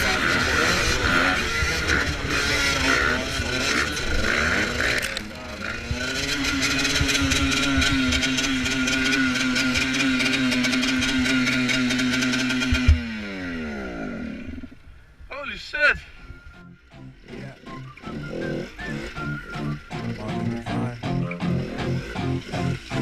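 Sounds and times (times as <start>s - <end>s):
motorcycle engine revving: 0.0s - 15.1s, 16.1s - 23.0s.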